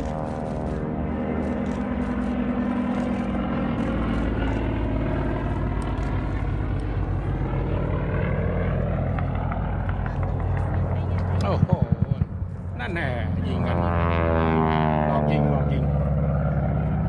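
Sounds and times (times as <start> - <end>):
propeller airplane engine: 0.0 - 17.0.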